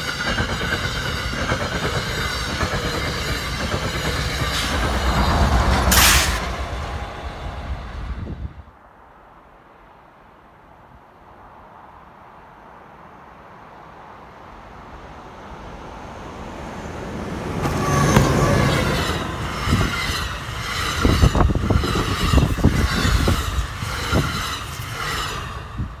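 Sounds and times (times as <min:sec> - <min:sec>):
train passing with rushing hiss: 0:00.0 - 0:08.8, 0:11.3 - 0:26.0.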